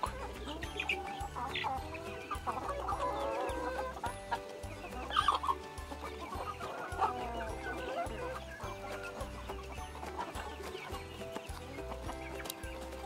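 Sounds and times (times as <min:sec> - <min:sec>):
background music with steady beat: 0:00.0 - 0:13.0
chickens clucking: 0:00.0 - 0:13.0.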